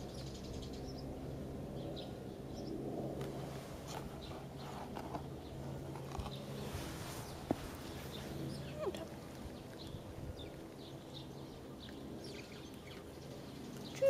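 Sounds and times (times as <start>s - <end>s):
small birds chirping: 0.0s - 1.2s, 1.8s - 2.8s, 3.8s - 14.0s.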